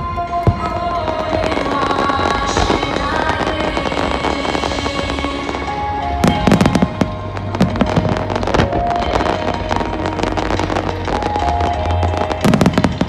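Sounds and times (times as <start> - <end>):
fireworks banging and crackling: 0.0 - 13.0
music playing: 0.0 - 13.0.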